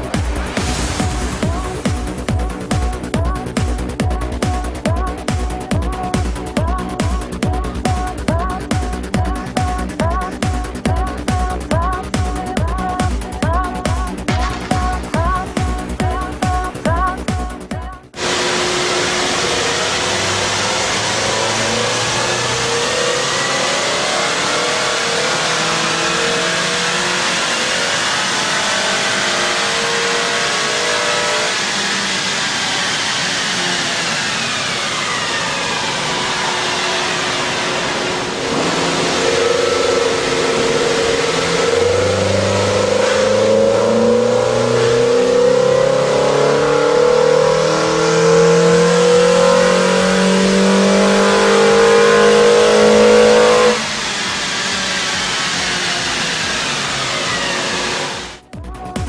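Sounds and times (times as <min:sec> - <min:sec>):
car engine accelerating: 0:00.0 - 0:58.5.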